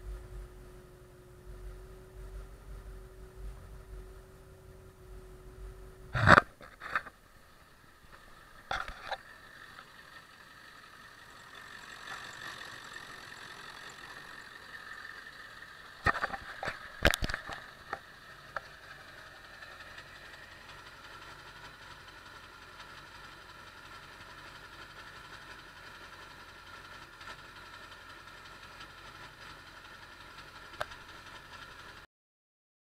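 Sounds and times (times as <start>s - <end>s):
diesel engine idling: 0.0s - 32.1s.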